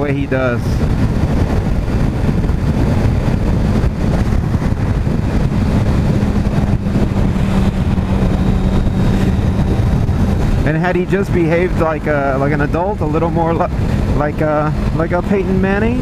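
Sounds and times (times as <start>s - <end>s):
motorcycle engine at speed: 0.0s - 16.0s
wind rushing over microphone: 0.0s - 16.0s.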